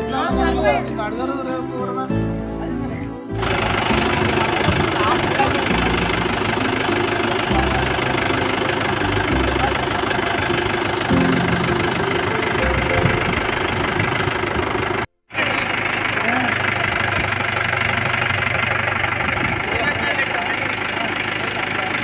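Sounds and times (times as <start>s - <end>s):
motorcycle engine running: 3.4s - 22.0s.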